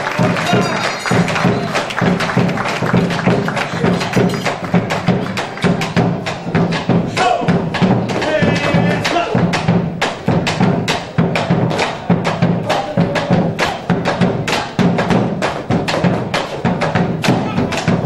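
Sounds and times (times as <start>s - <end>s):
deep drum tone: 0.0s - 18.0s
woody drum strikes: 0.0s - 18.0s.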